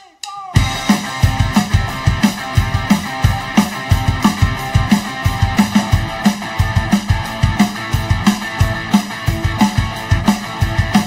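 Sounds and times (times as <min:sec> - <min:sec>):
rock music with drums and guitar: 0:00.5 - 0:11.0.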